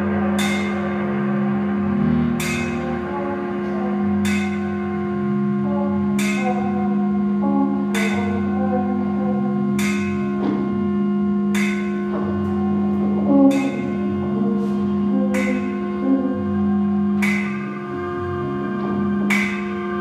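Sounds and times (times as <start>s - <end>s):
bell-like percussion strikes: 0.0s - 20.0s
drone of held tones: 0.0s - 20.0s
shifting pitched notes: 0.0s - 20.0s.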